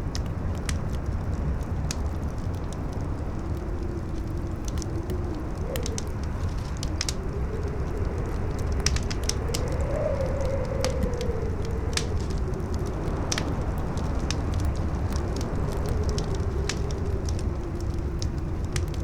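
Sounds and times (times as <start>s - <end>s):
campfire crackling and popping: 0.0s - 19.0s
howling wind: 0.0s - 19.0s
low wind rumble: 0.0s - 19.0s.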